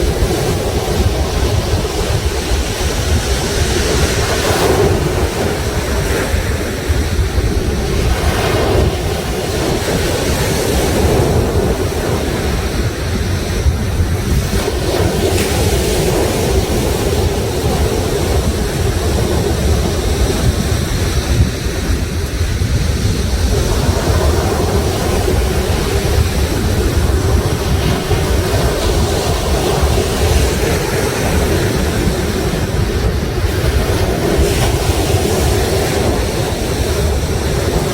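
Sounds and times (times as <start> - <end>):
sea waves breaking on shore: 0.0 - 37.9
wind buffeting microphone: 0.0 - 37.9.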